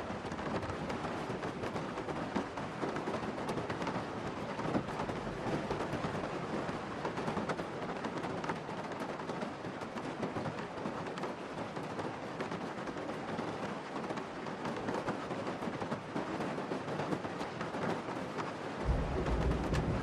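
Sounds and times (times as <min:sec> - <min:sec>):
heavy rain on a car: 0:00.0 - 0:20.0.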